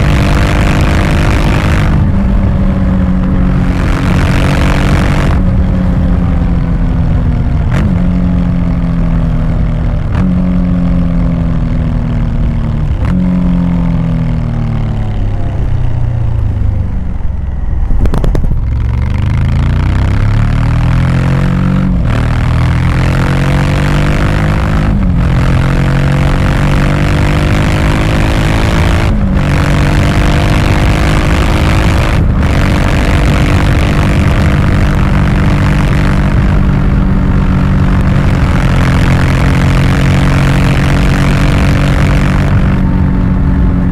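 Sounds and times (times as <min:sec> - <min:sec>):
motorcycle engine shifting gears: 0:00.0 - 0:43.9
wind noise: 0:00.0 - 0:43.9.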